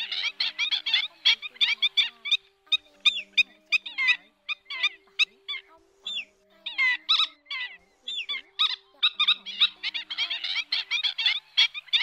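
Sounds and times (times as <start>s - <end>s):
birds yelping calls: 0.0s - 12.0s.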